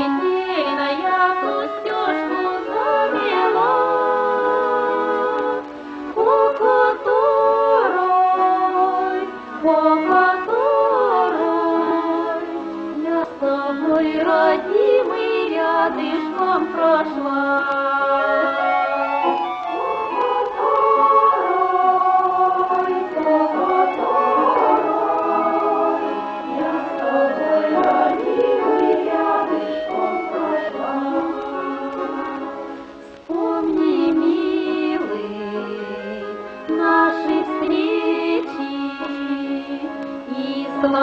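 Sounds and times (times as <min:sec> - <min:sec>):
song music: 0:00.0 - 0:41.0.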